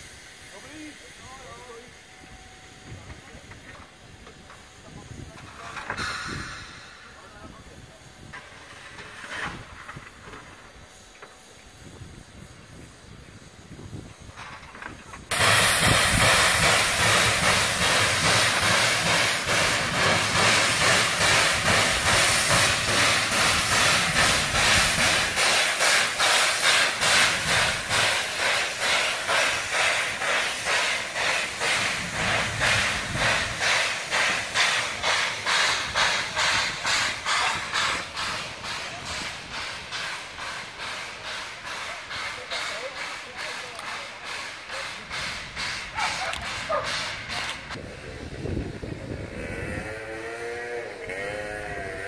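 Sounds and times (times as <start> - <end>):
loud steam hiss: 0.0 - 52.0
steam locomotive exhaust chuffs: 0.0 - 52.0.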